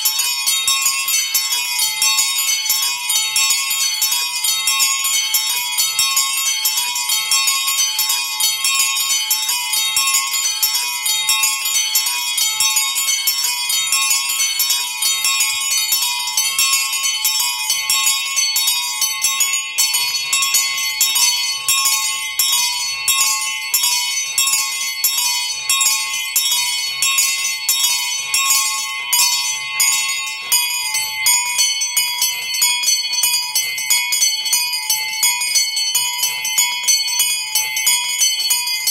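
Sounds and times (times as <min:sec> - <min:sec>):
small bells pealing: 0:00.0 - 0:38.9.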